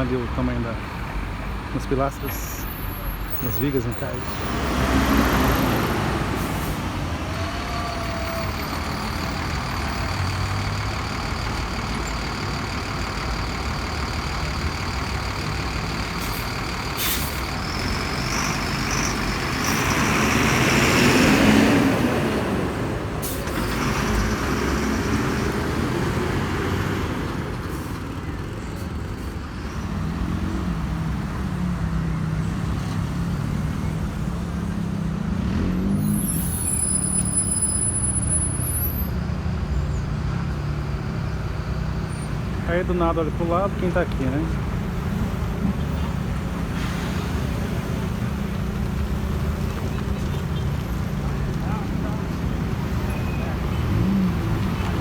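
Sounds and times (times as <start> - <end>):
heavy traffic passing: 0.0 - 55.0.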